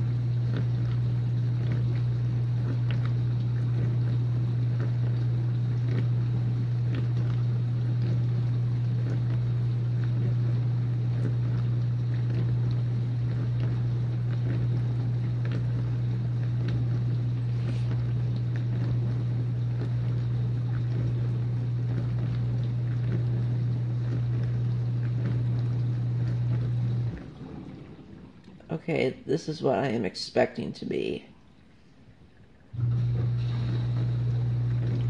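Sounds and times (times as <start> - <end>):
water spraying inside dishwasher: 0.0 - 28.8, 32.8 - 35.0
dishwasher pump motor hum: 0.0 - 35.0.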